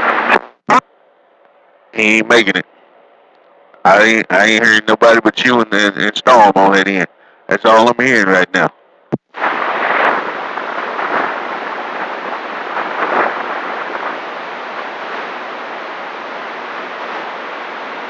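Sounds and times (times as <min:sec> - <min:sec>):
radio static hiss: 0:00.0 - 0:00.9, 0:02.0 - 0:02.9, 0:03.8 - 0:18.0.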